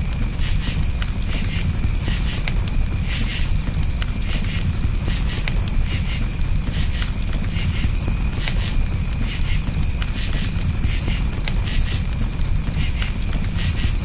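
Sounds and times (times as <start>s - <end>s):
campfire crackling pops: 0.0s - 14.0s
crickets chirping: 0.0s - 14.0s.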